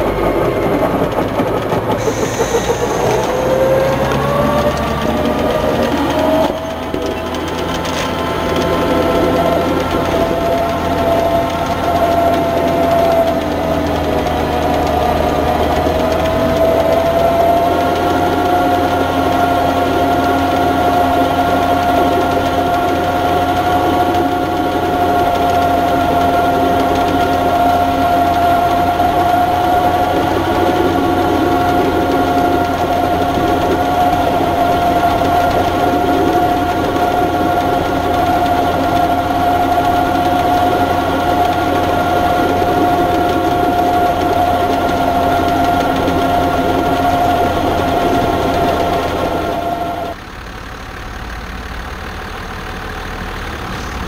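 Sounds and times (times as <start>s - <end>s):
steady high whine: 0.0s - 51.0s
tractor engine hum: 0.0s - 54.0s.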